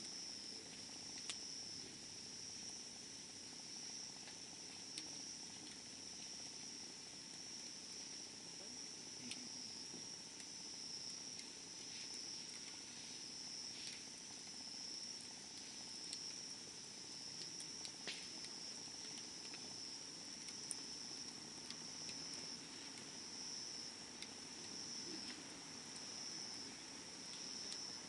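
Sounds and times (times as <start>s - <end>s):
campfire crackling and popping: 0.1s - 28.0s.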